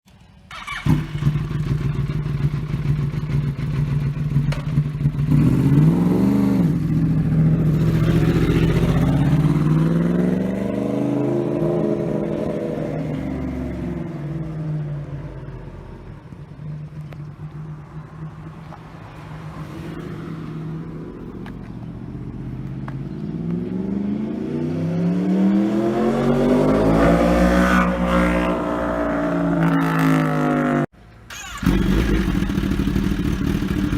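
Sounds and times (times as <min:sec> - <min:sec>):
motorcycle engine revving: 0:00.5 - 0:18.9, 0:23.3 - 0:33.9.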